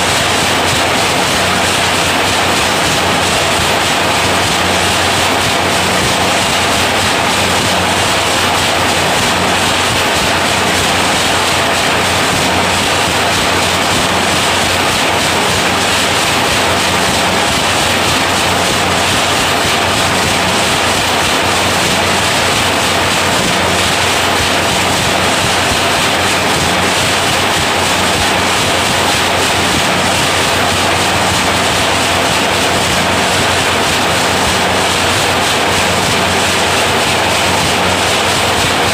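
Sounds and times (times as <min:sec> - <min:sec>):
nail machine mechanical clatter: 0:00.0 - 0:38.9.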